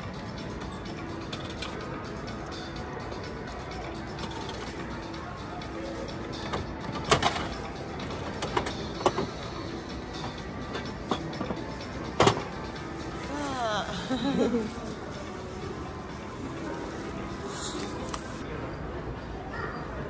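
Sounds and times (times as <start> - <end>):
background music: 0.0 - 19.3
background hubbub: 0.0 - 20.0.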